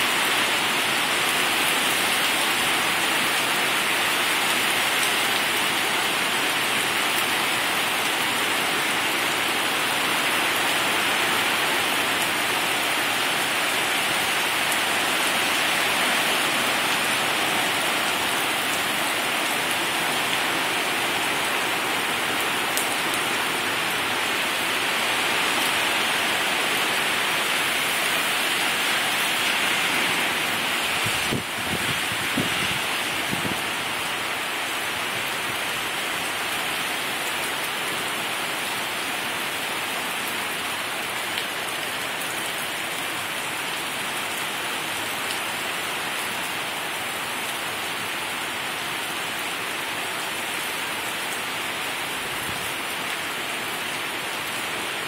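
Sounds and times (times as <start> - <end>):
heavy rain on road: 0.0 - 55.0.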